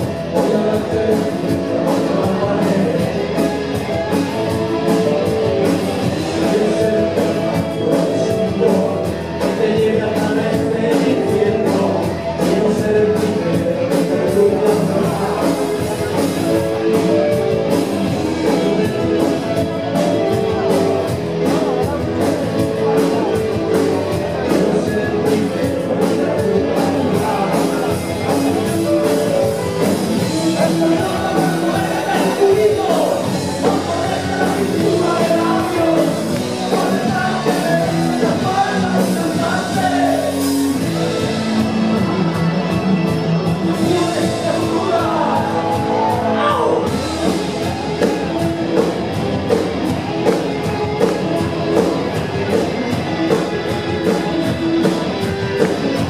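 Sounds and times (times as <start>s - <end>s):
man singing: 0.0s - 42.8s, 43.4s - 48.8s
drums and cymbals: 0.0s - 56.0s
guitar chords: 0.0s - 56.0s.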